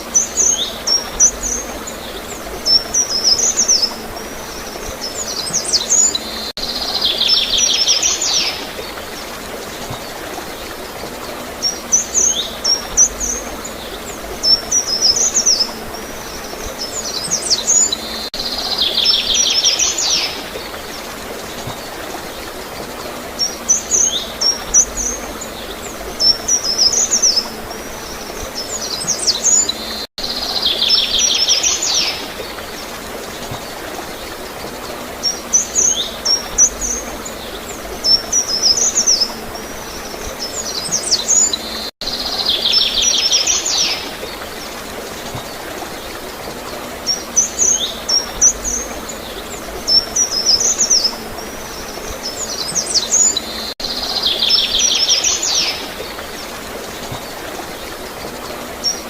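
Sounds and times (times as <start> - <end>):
gurgling flowing water: 0.0 - 59.0
songbirds chirping and trilling: 0.0 - 59.0.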